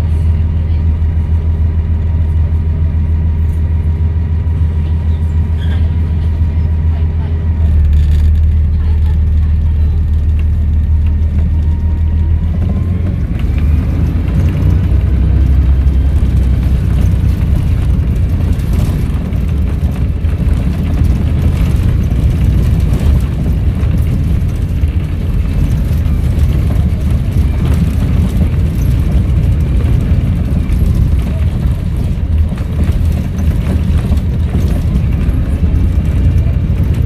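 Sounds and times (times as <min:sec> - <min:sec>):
diesel bus engine rumbling: 0:00.0 - 0:37.0.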